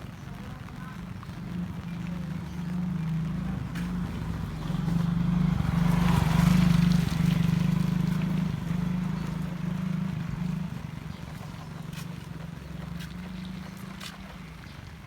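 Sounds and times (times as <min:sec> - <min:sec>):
vehicle engine passing: 0:01.5 - 0:15.0.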